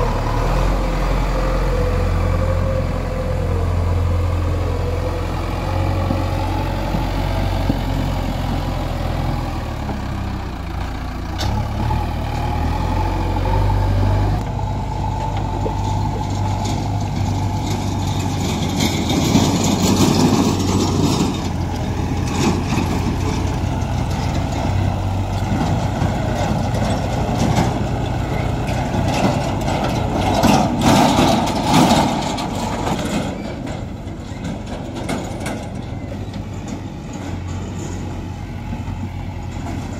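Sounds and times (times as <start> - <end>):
diesel engine droning: 0.0 - 39.9
tractor engine: 0.0 - 39.9.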